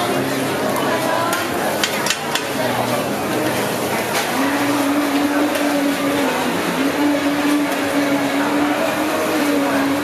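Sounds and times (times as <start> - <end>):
busy market background noise: 0.0 - 10.0
steady motor-like hum: 0.0 - 10.0.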